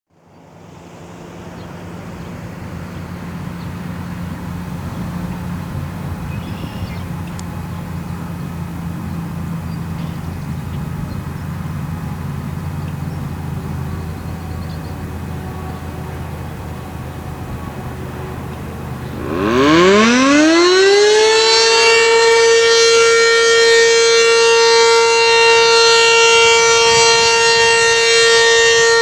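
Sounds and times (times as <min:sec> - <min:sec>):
distant warning siren droning: 0:00.2 - 0:29.0.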